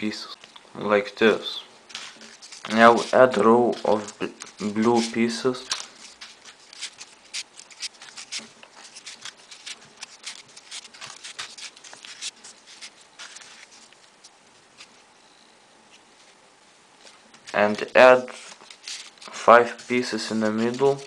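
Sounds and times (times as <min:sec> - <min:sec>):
paper clicks and rustles: 0:01.9 - 0:15.0, 0:17.0 - 0:21.0.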